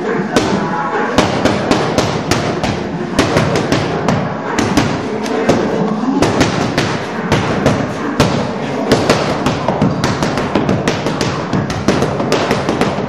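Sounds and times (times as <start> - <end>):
boxing gloves hitting focus mitts: 1.2 - 13.0.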